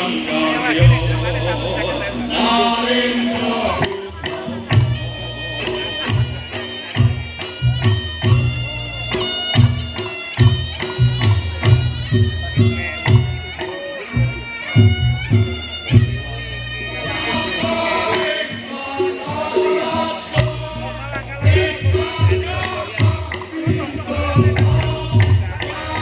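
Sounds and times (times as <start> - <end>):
reedy shawm melody: 0.0 - 26.0
hand drum beats: 0.7 - 26.0.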